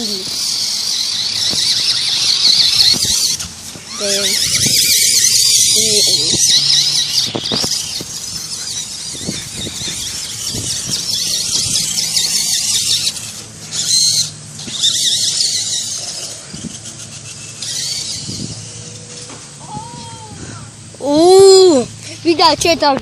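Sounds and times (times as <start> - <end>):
rc car motor whining: 0.0 - 22.7.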